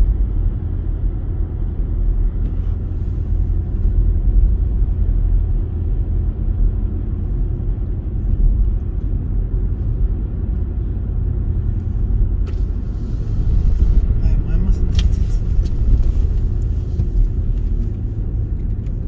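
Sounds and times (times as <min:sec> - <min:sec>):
car driving interior rumble: 0:00.0 - 0:19.0.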